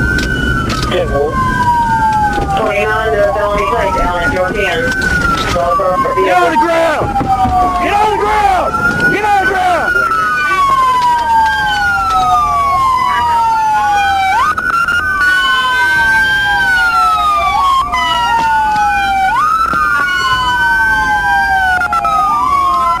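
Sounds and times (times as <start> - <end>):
police sirens wailing: 0.0 - 23.0.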